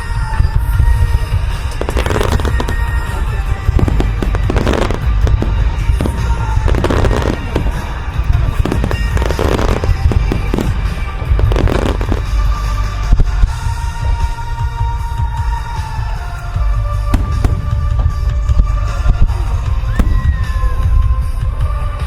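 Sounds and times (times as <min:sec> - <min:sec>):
continuous low rumble: 0:00.0 - 0:22.0
fireworks bangs and crackling: 0:00.0 - 0:22.0
rock song playing: 0:00.0 - 0:22.0.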